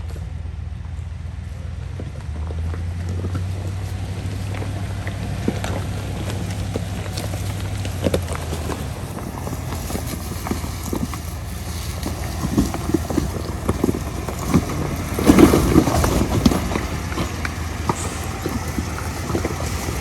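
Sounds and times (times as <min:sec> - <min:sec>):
vehicle rumble: 0:00.0 - 0:20.0
knocks and rattles: 0:01.8 - 0:20.0.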